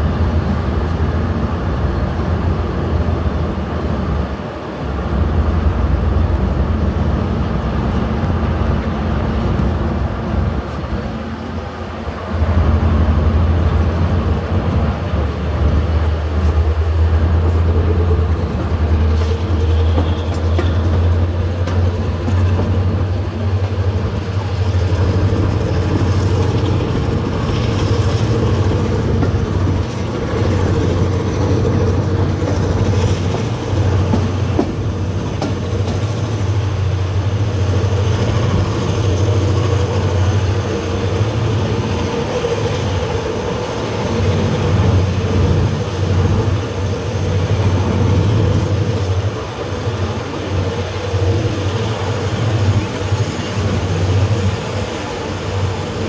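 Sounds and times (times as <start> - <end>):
train coaches rumbling: 0.0 - 56.0.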